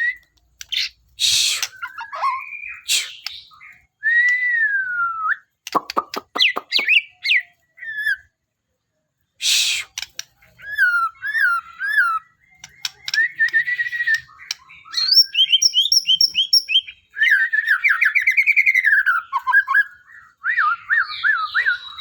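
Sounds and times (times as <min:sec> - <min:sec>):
bird singing whistled song: 0:00.0 - 0:05.6, 0:06.4 - 0:08.4, 0:09.4 - 0:22.0.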